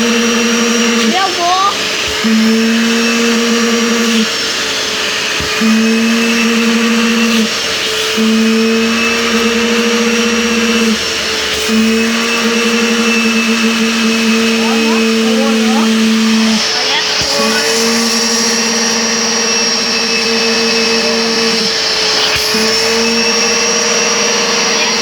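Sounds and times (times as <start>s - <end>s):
upholstery vacuum cleaner running: 0.0s - 25.0s.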